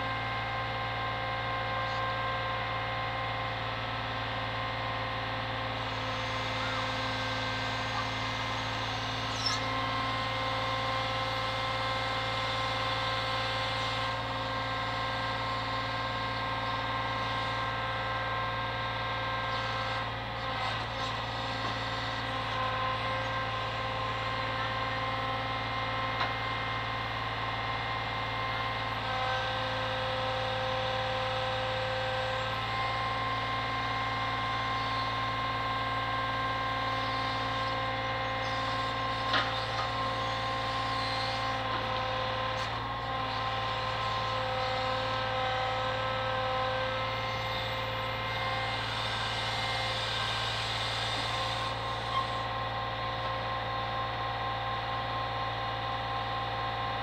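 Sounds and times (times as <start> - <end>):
hydraulic crane whine: 0.0 - 57.0.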